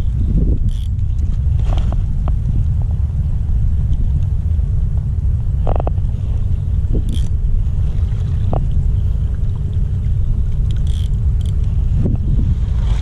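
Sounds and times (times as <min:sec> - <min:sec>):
choppy sea water: 0:00.0 - 0:13.0
wind buffeting microphone: 0:00.0 - 0:13.0.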